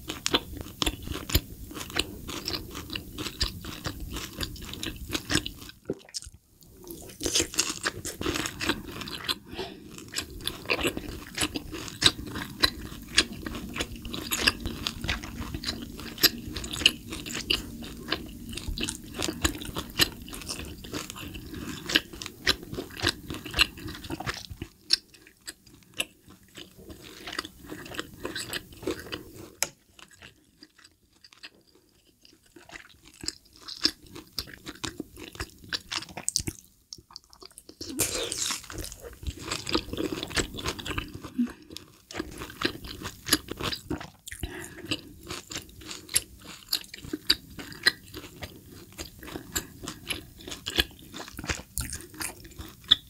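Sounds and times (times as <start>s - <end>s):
wet chewing and smacking: 0.0s - 53.0s.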